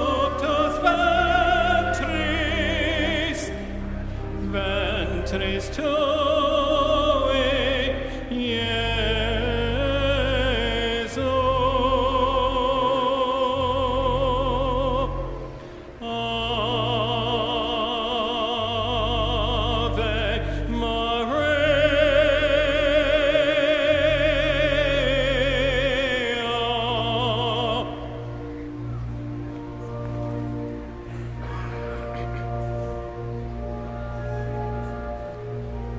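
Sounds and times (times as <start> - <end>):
operatic singing with vibrato: 0.0 - 35.9.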